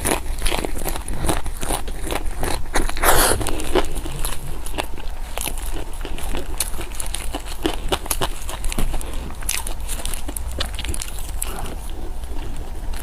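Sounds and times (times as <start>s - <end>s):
food being chewed: 0.0s - 13.0s
loud bite: 0.0s - 13.0s.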